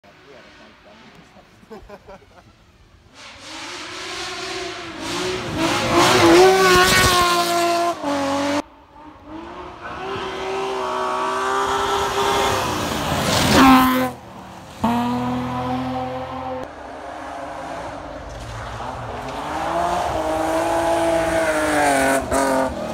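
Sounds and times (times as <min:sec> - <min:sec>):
rally car engines at high revs: 0:03.1 - 0:22.9.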